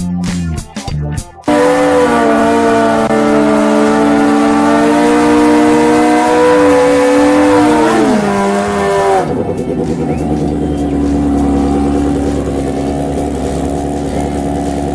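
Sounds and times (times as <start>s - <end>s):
motorcycle engines revving high: 1.5s - 14.9s.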